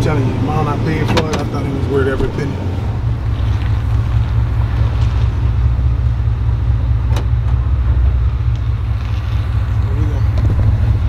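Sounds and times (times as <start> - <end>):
pickup truck engine and exhaust: 0.0 - 11.0.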